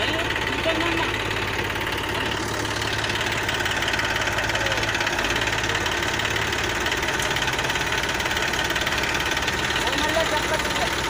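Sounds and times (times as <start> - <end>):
tractor diesel engines chugging: 0.0 - 11.0.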